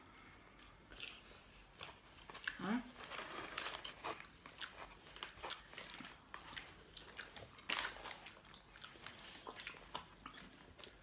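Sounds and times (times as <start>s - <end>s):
chewing and mouth clicks: 0.1s - 11.0s.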